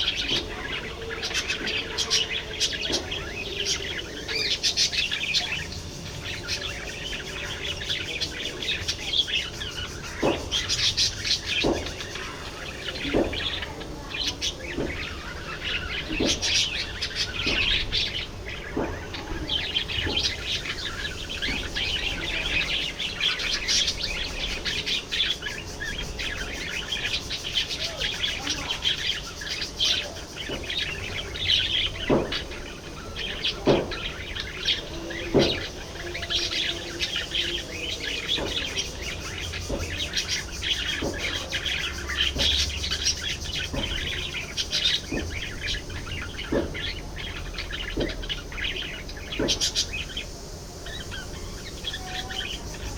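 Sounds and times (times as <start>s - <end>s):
budgerigars chattering and chirping: 0.0s - 52.9s.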